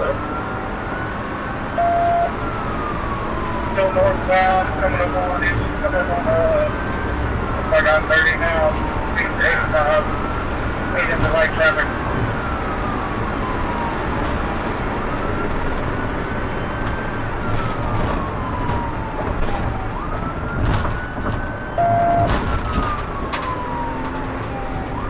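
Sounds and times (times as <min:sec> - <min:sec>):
engine and road noise: 0:00.0 - 0:25.0
police siren wailing: 0:00.0 - 0:25.0.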